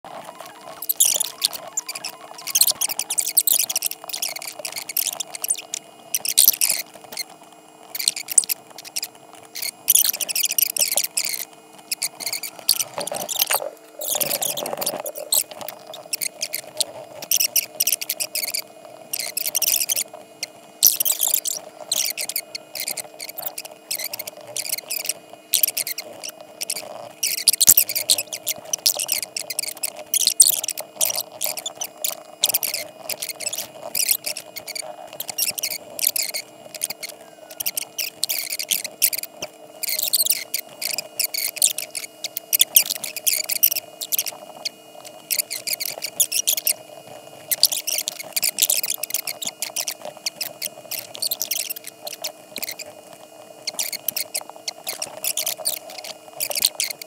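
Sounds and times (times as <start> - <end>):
faint steady hum: 0.0 - 57.0
high-pitched scratchy squeaking: 0.1 - 7.3, 7.9 - 57.0.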